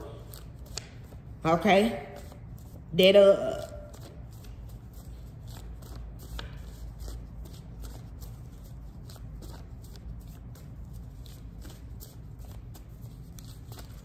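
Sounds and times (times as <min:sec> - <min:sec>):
low steady hum: 0:00.0 - 0:14.0
cards being shuffled: 0:00.1 - 0:01.4, 0:03.6 - 0:14.0.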